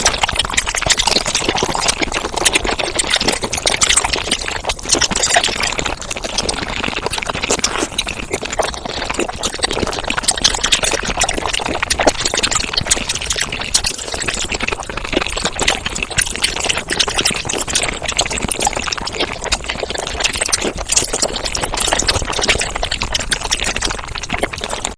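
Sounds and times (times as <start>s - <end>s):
sped-up wet chewing and slurping: 0.0s - 24.9s.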